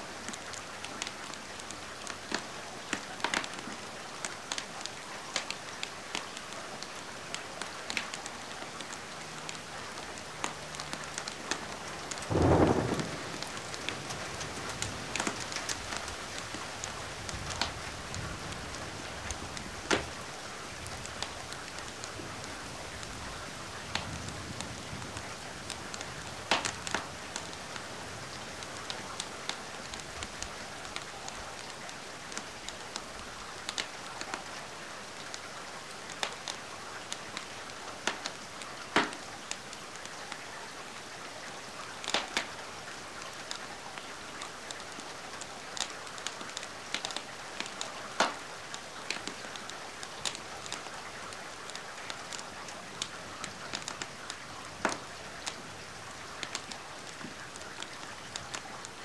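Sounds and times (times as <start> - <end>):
steady rain falling: 0.0 - 59.0
wood fire crackling: 0.1 - 41.0, 41.8 - 59.0.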